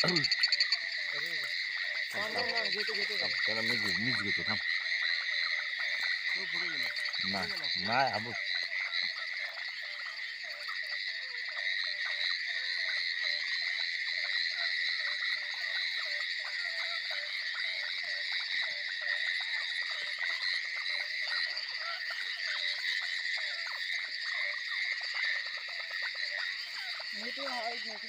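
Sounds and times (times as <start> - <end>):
frogs croaking: 0.0 - 28.0.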